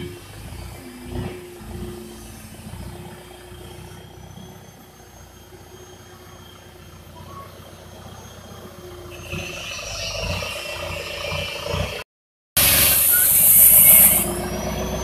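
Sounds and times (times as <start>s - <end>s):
diesel engine rumbling: 0.0s - 12.0s, 12.6s - 15.0s.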